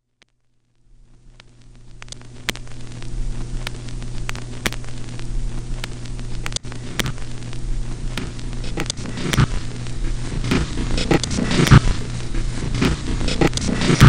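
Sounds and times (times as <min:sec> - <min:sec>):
crackles and clicks: 0:00.0 - 0:14.0
low electrical hum: 0:00.0 - 0:14.0.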